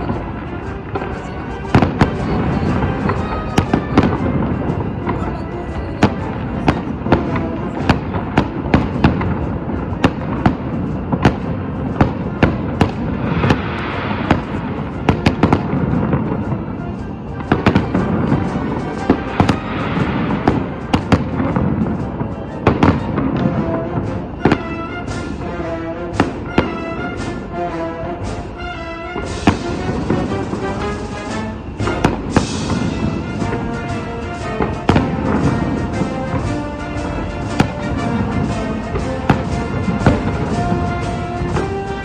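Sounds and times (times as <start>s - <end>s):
fireworks banging and crackling: 0.0s - 42.0s
music: 0.0s - 42.0s.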